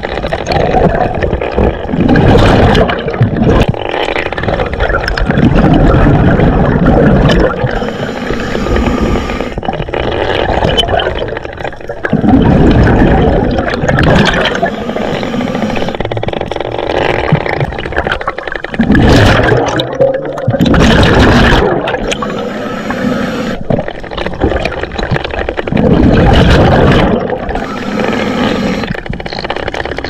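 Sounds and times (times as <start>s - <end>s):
underwater rushing and bubbling: 0.0s - 30.0s.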